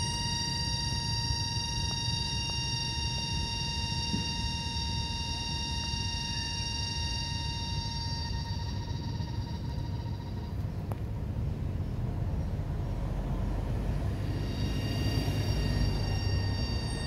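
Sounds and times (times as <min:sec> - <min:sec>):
high droning whine: 0:00.0 - 0:17.0.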